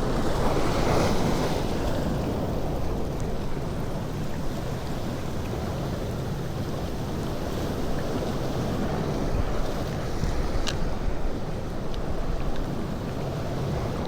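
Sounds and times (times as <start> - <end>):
sea surf: 0.0 - 14.0.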